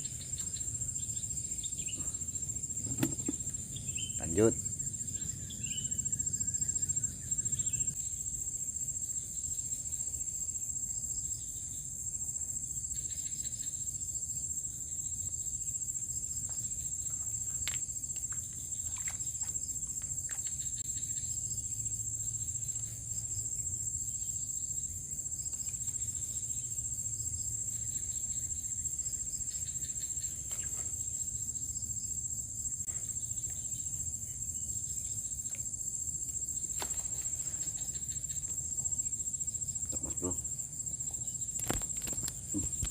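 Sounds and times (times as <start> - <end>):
night insects trilling: 0.0 - 42.9.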